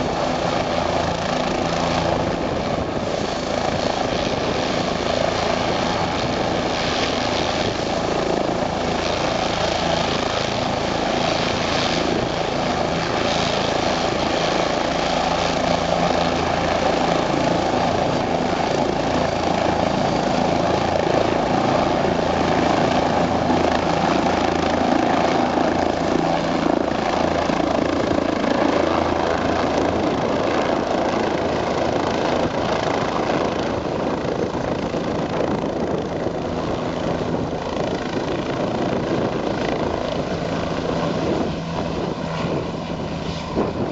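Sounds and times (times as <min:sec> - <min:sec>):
helicopter turbine and rotor: 0:00.0 - 0:43.9.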